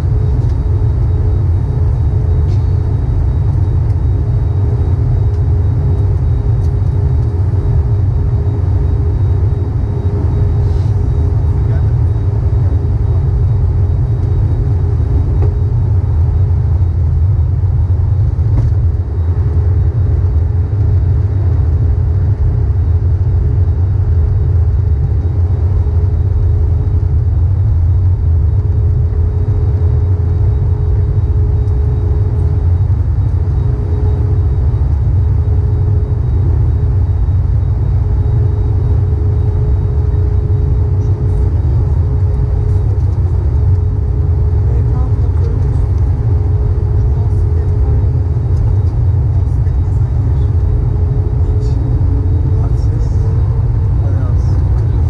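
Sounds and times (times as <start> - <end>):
engine and airflow rumble: 0.0 - 55.0
mid-pitched hum: 0.0 - 55.0.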